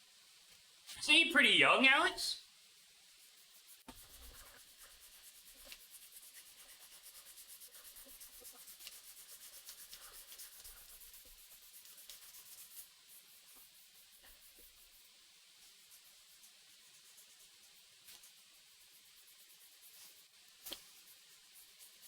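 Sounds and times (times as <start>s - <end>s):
sandpaper scratching on wood: 3.1s - 22.0s.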